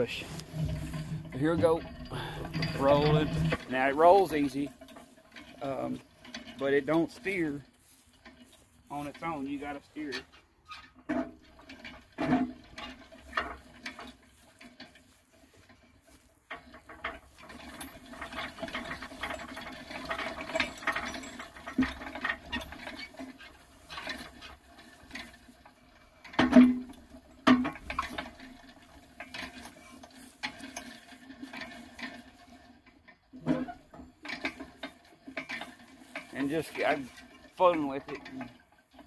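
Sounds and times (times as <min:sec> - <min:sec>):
metal crane wheels rattling: 0:00.0 - 0:39.0.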